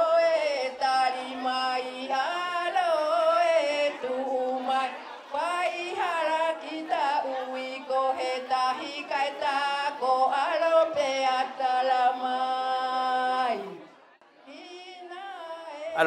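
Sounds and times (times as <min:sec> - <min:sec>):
voices singing a chant: 0:00.0 - 0:16.0.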